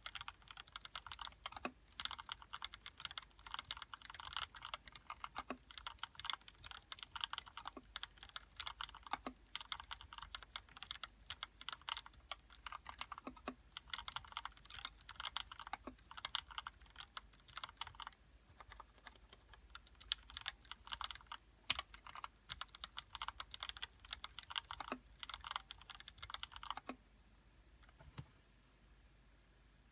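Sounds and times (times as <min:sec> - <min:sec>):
typing on mechanical keyboard: 0:00.0 - 0:27.0.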